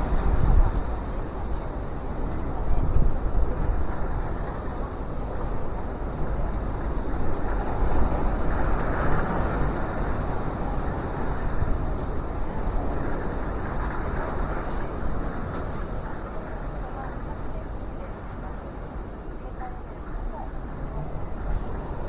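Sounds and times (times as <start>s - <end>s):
wind buffeting microphone: 0.0s - 19.4s.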